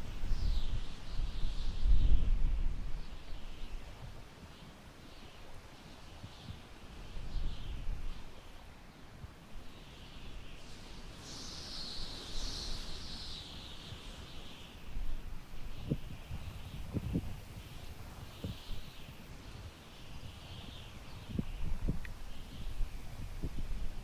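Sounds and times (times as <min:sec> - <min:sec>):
wind gusting through grass: 0:00.0 - 0:24.0.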